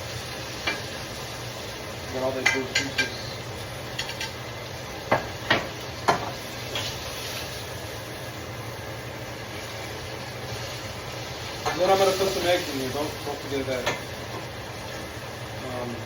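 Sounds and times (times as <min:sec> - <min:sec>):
pan juices sizzling: 0:00.0 - 0:16.0.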